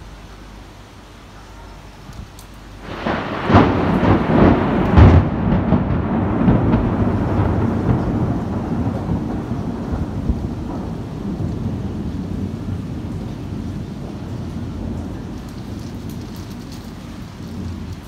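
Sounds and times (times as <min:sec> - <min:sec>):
steady rain: 0:00.0 - 0:18.0
thunderclap and deep rumble: 0:02.0 - 0:18.0.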